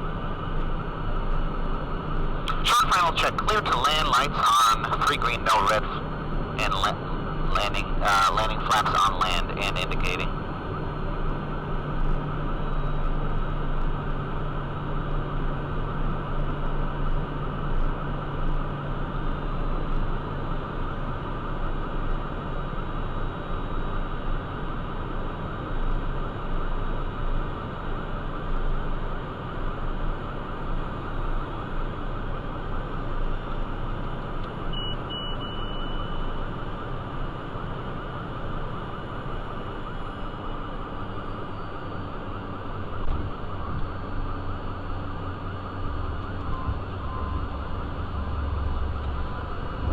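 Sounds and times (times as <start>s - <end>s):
jet cockpit engine rumble: 0.0s - 24.5s, 25.1s - 49.9s
thin constant whine: 0.0s - 49.9s.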